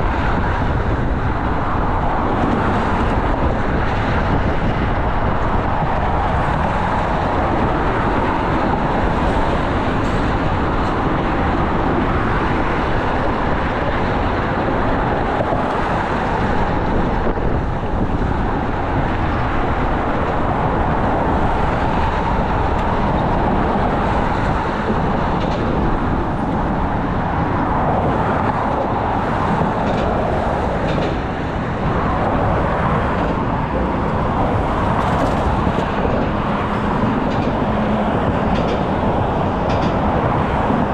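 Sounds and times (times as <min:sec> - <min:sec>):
vehicle road noise: 0:00.0 - 0:40.9.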